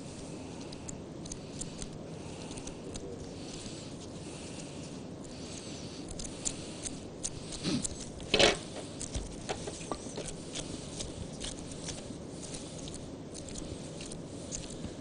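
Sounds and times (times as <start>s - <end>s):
hands rubbing dough: 0.0s - 15.0s.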